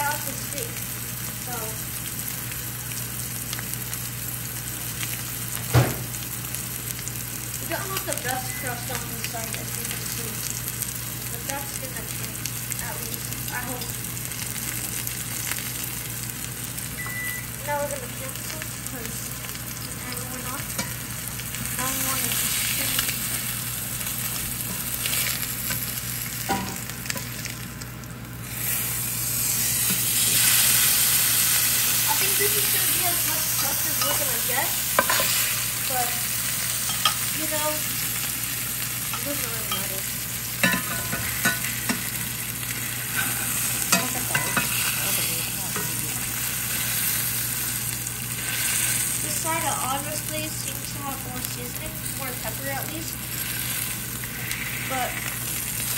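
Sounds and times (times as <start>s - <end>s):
fish sizzling in hot oil: 0.0s - 55.9s.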